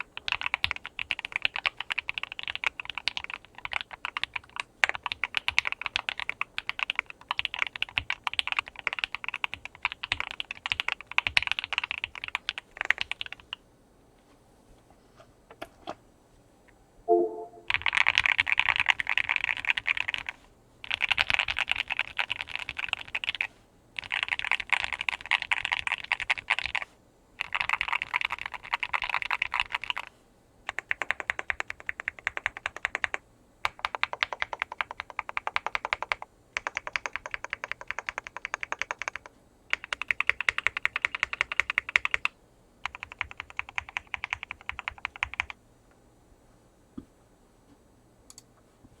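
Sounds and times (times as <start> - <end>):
mechanical keyboard typing: 0.0 - 13.6, 17.1 - 26.8, 27.4 - 30.1, 30.7 - 45.6.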